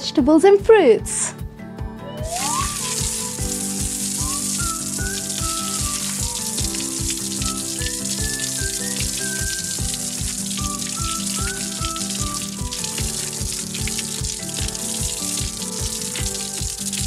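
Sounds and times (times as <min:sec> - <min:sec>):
background music with beat: 0:01.3 - 0:17.0
tap water running: 0:02.2 - 0:17.0.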